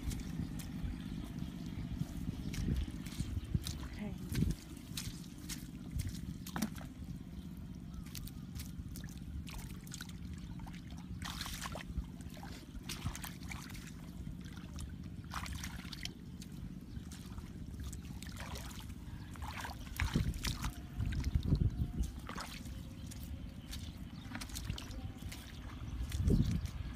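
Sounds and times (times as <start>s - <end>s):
low rumble: 0.0s - 26.9s
splashing in muddy puddle: 0.0s - 26.9s.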